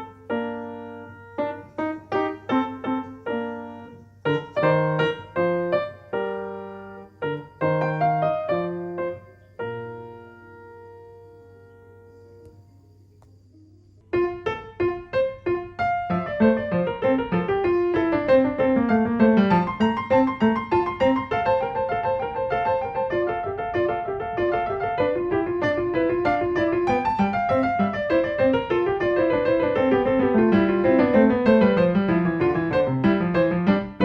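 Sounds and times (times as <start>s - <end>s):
piano music: 0.0s - 12.7s, 14.1s - 34.0s.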